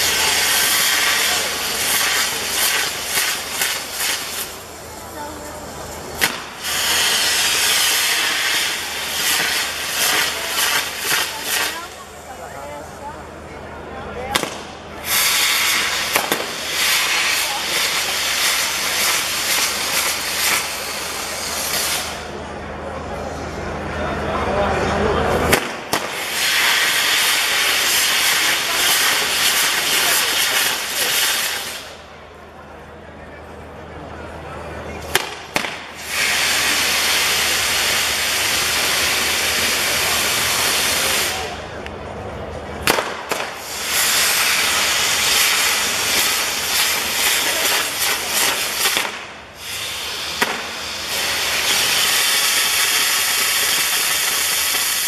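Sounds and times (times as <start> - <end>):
firework fountains hissing: 0.0 - 24.0, 24.7 - 32.3, 34.8 - 55.0.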